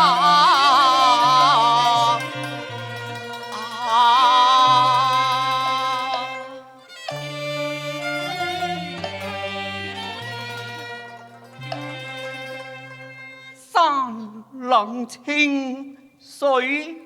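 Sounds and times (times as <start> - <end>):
bowed string melody: 0.0 - 14.4.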